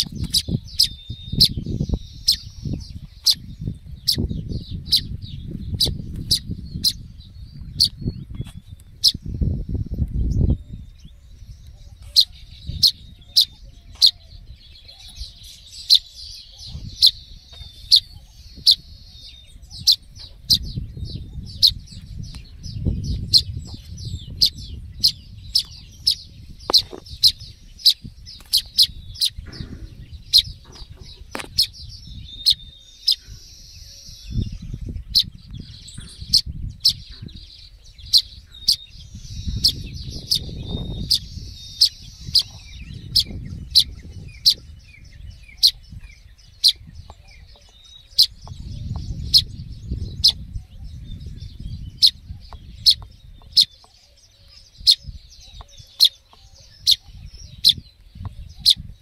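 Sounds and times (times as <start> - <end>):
young bird begging calls: 0.0 - 7.1, 7.7 - 9.3, 11.4 - 59.0.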